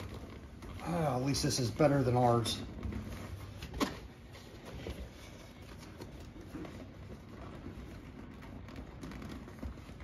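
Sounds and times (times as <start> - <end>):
duct hose rustling and scraping: 0.0 - 10.0.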